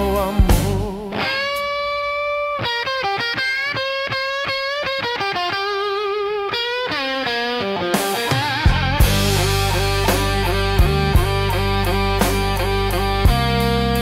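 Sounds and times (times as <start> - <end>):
distorted electric guitar solo: 0.8 - 14.0.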